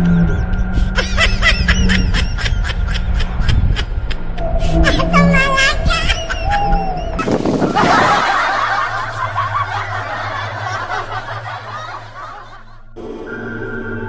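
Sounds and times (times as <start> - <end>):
ambient music with held tones: 0.0 - 14.0
people laughing and chuckling: 0.4 - 12.9.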